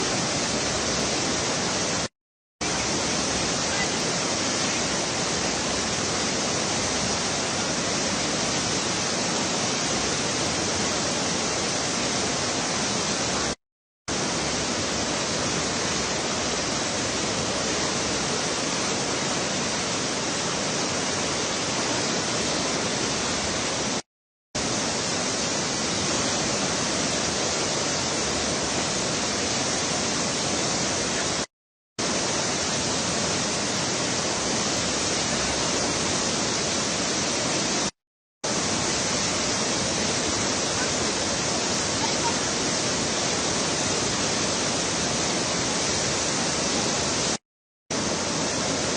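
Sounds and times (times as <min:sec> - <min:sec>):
river water rushing: 0:00.0 - 0:24.0, 0:24.6 - 0:37.9, 0:38.5 - 0:48.9.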